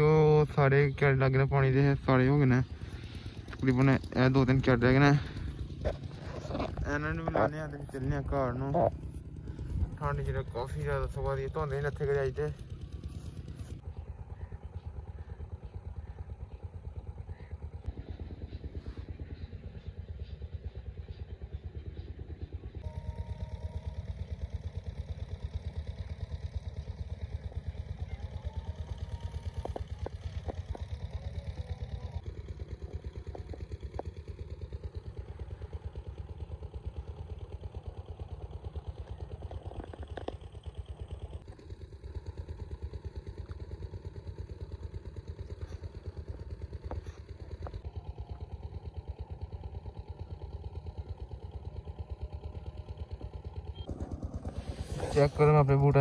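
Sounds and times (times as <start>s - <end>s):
water pump engine running: 0.0s - 56.0s.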